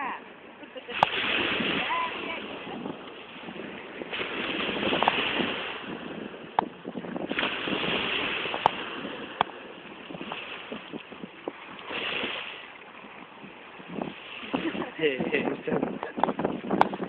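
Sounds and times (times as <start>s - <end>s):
sea water splashing: 0.0s - 17.0s
wind noise on microphone: 0.0s - 17.0s.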